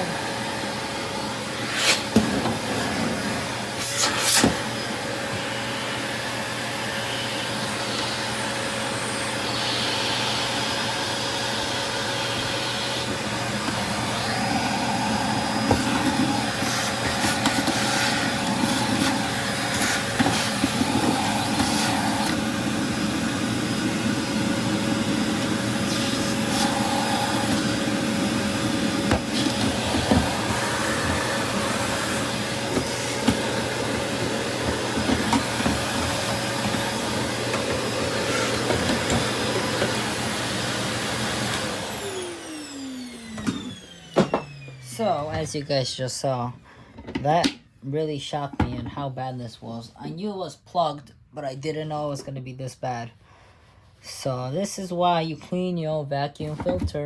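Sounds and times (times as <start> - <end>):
vacuum cleaner running: 0.0 - 47.2.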